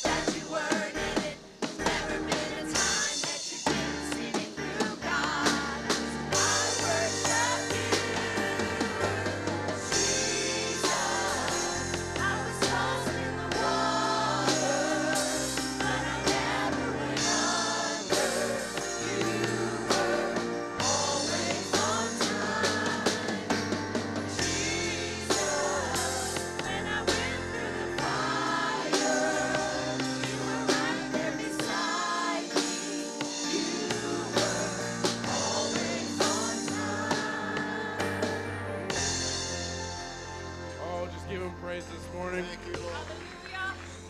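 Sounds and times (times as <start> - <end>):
band playing bass and drums: 0.0 - 43.6
choir singing gospel: 0.0 - 44.0.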